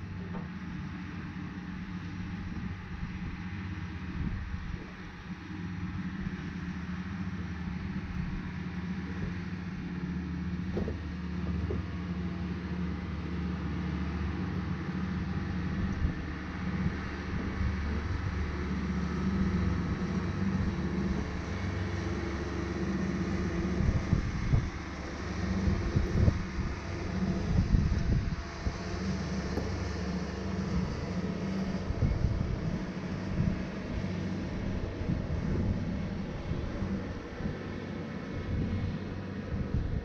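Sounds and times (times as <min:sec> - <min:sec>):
light plane piston engine running: 0:00.0 - 0:40.0.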